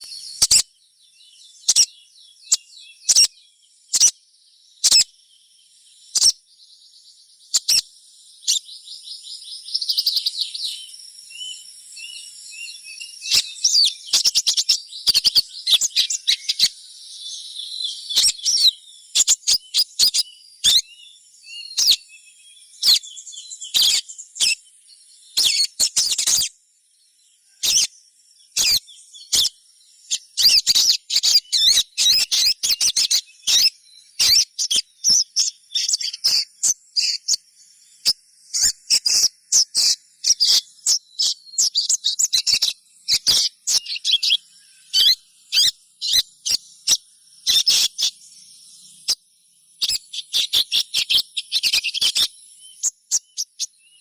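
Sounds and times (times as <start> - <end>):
young birds chirping: 0.0 - 26.6, 27.4 - 54.0.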